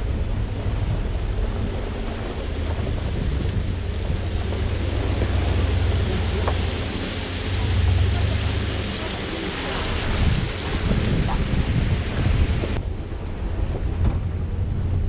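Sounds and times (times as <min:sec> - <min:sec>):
pickup truck engine rumble: 0:00.0 - 0:15.0
wind noise on microphone: 0:00.0 - 0:15.0.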